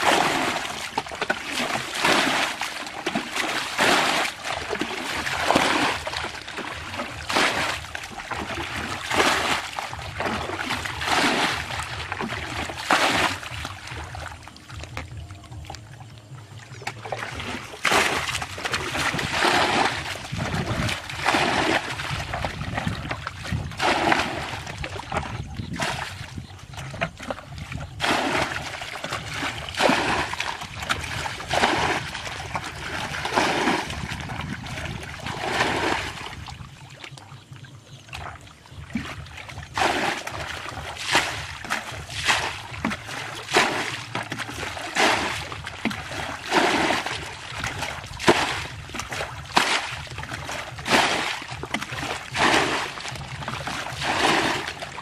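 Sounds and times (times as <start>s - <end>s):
bucket scooping and splashing water: 0.0s - 55.0s.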